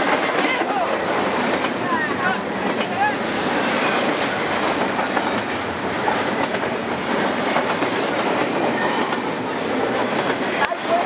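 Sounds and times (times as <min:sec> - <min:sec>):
freight train rumbling and rattling: 0:00.0 - 0:11.0
wheels clicking over rails: 0:00.0 - 0:11.0.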